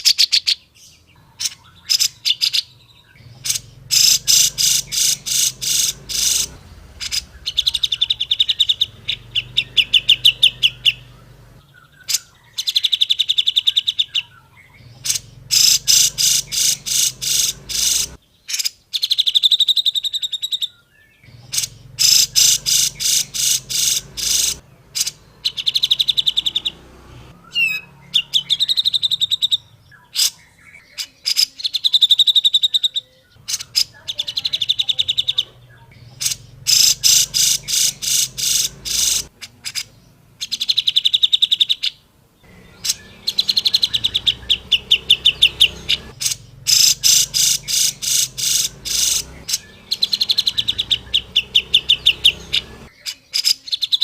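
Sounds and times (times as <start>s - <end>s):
bulbul singing trilled phrases: 0.0s - 54.0s.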